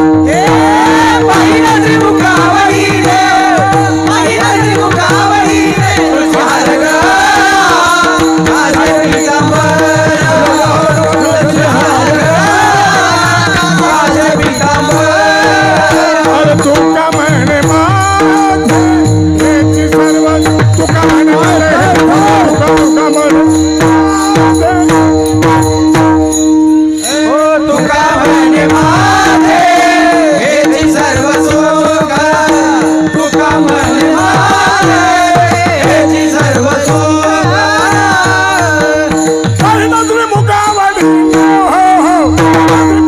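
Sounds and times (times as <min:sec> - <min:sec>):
fast drum strokes: 0:00.0 - 0:26.4, 0:27.1 - 0:43.0
harmonium drone: 0:00.0 - 0:43.0
jingling hand cymbals: 0:00.0 - 0:43.0
voices singing devotional melody: 0:00.0 - 0:43.0.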